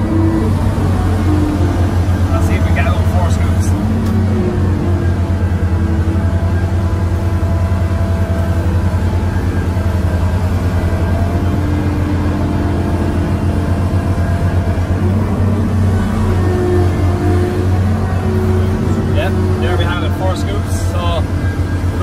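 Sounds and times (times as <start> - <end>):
excavator diesel engine working: 0.0 - 22.0.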